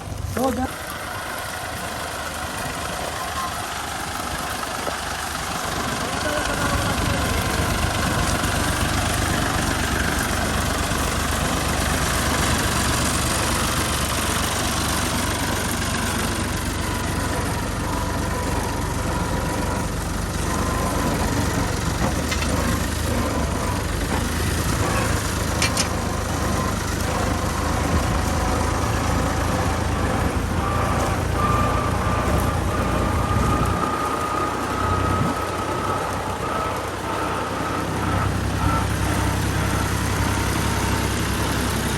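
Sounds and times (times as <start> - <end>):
tractor diesel engine droning: 0.0 - 41.9.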